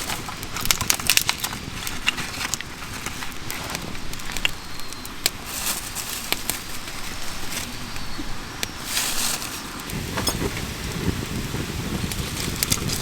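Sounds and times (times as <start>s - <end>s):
wood fire crackling and popping: 0.0s - 6.9s, 8.6s - 13.0s.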